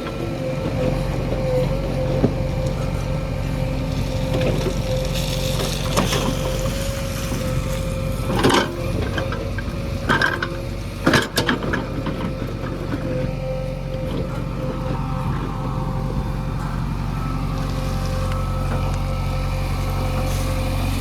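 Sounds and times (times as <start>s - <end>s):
constant tone: 0.0s - 21.0s
diesel engine running: 0.0s - 21.0s
metallic clanks and knocks: 0.0s - 21.0s.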